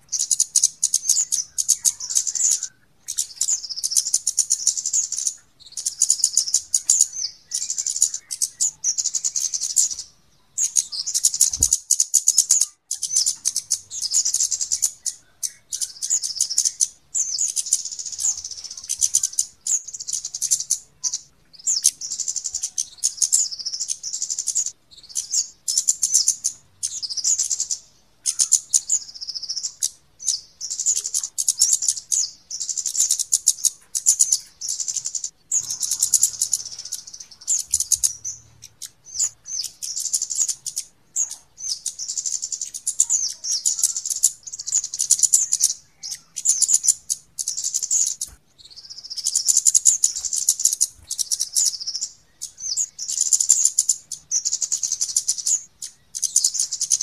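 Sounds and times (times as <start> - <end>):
birds chirping in rapid trills: 0.0 - 57.0.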